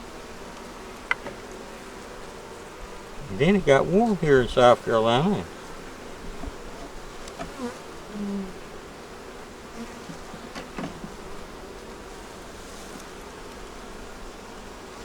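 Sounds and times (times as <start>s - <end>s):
bee buzzing close by: 0.0s - 15.0s
honey bees buzzing: 0.0s - 15.0s.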